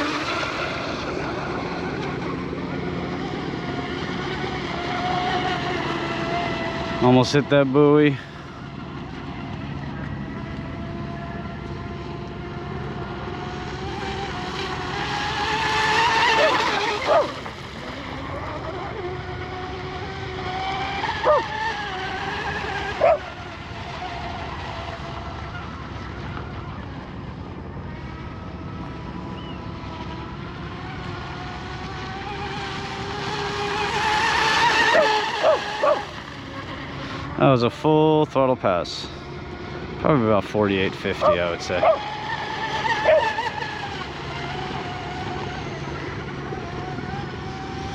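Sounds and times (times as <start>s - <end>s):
rc boat motor whining: 0.0s - 47.9s.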